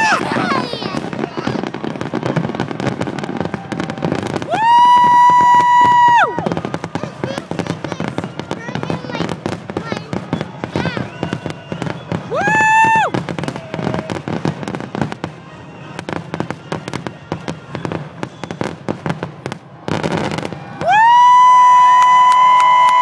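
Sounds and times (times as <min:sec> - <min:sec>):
fireworks booming and crackling: 0:00.0 - 0:23.0.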